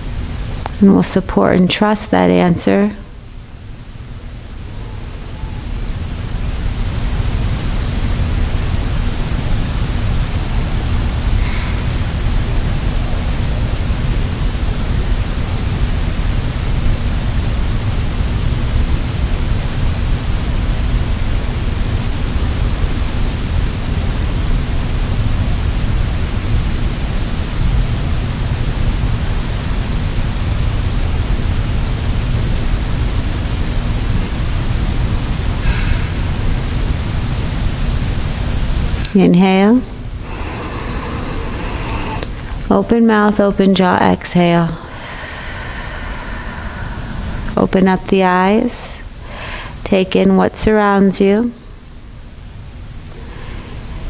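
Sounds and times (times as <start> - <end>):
faint low hum: 0.0 - 54.0
loud rushing static hiss: 0.0 - 54.0.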